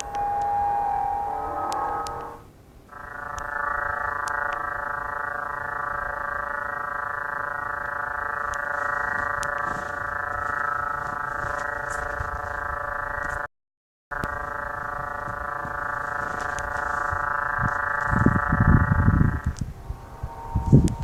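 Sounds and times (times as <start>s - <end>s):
steady drone with overtones: 0.0s - 11.6s, 14.3s - 21.0s.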